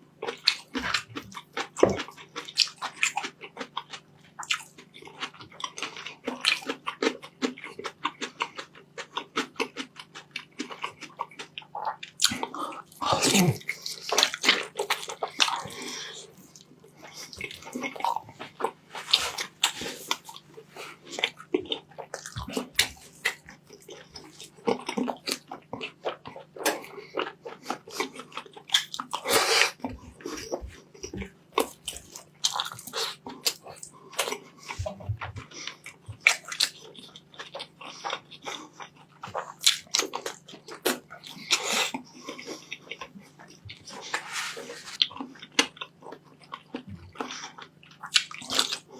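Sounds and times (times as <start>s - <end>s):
faint steady hum: 0.0s - 48.9s
person chewing food: 0.0s - 48.9s.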